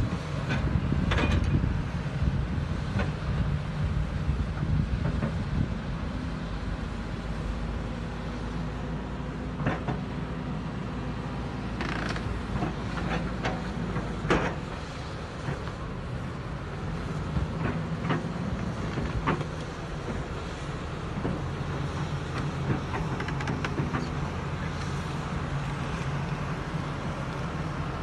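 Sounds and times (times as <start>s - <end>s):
diesel engines under load: 0.0s - 28.0s.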